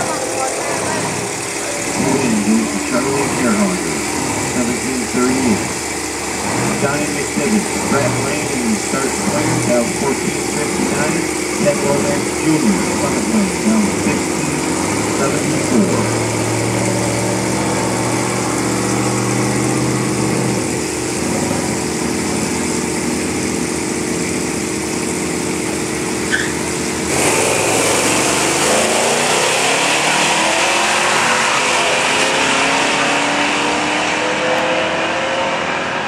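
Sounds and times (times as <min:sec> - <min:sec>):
drag racing car engines: 0:00.0 - 0:36.0.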